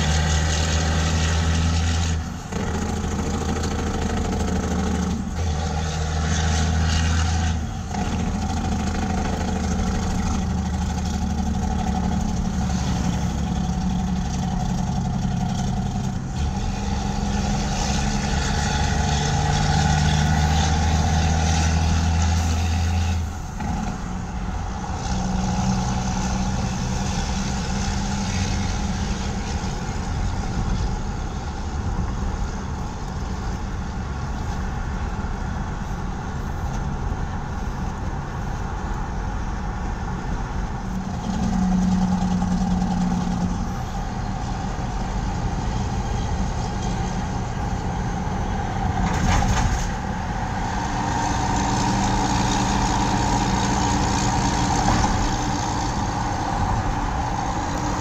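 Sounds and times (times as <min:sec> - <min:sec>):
diesel truck exhaust drone: 0:00.0 - 0:58.0
road noise inside car: 0:00.0 - 0:58.0.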